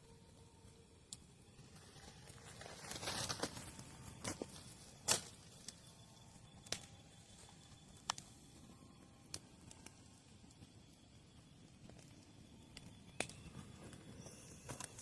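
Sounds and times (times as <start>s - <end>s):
bonfire crackling and popping: 0.1s - 15.0s.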